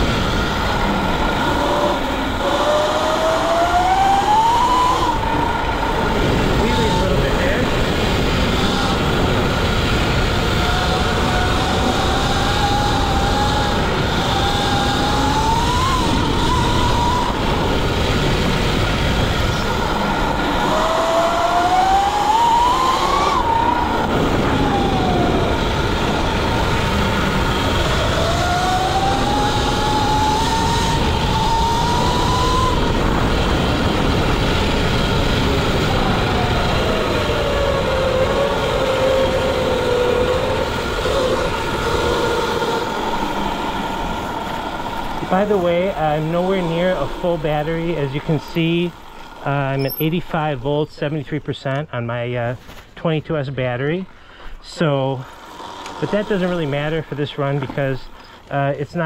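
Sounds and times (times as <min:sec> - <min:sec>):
electric motor whine: 0:00.0 - 0:49.4, 0:55.0 - 0:58.5
wind rush and trail noise: 0:00.0 - 0:51.5.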